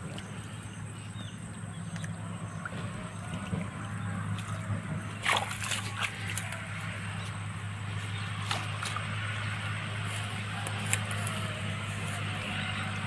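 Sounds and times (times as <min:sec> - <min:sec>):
pond water sloshing and dripping: 0:00.0 - 0:13.0
water splashes: 0:00.0 - 0:13.0.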